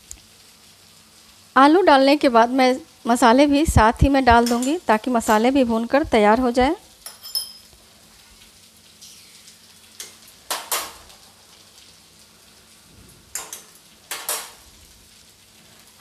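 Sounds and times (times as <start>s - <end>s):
stuffing sizzling in a pan: 0.0s - 16.0s.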